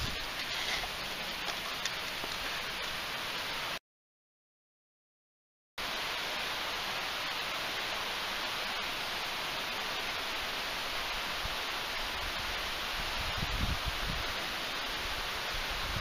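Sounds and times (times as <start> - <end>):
river running over stones: 0.0 - 3.8, 5.8 - 16.0.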